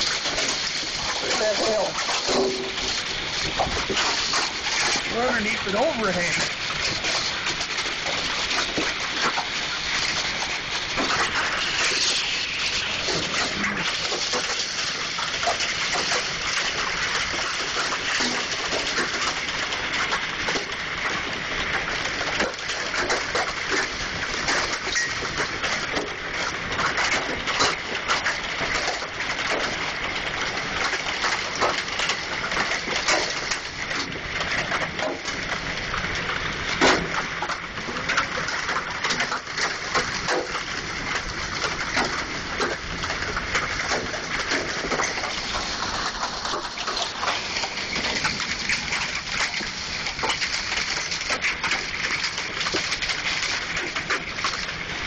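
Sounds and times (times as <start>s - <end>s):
hail and rain hissing on surfaces: 0.0s - 55.0s
hailstones knocking: 0.0s - 55.0s.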